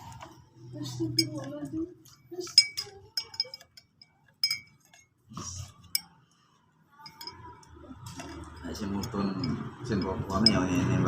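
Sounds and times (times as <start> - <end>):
small hard object clinking: 0.0 - 6.3, 7.0 - 11.0.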